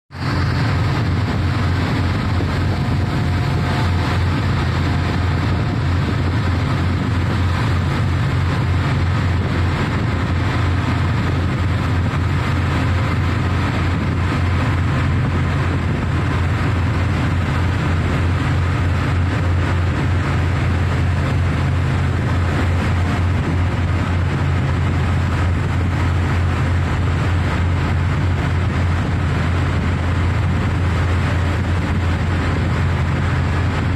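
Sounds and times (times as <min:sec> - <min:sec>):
heavy machinery drone: 0:00.1 - 0:33.9.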